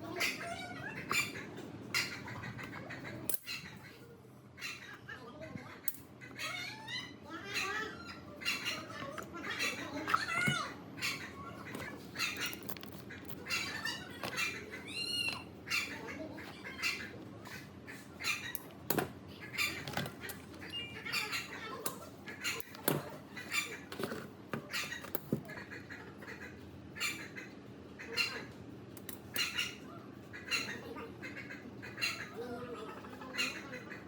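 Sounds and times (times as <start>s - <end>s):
birds chirping: 4.6s - 34.0s.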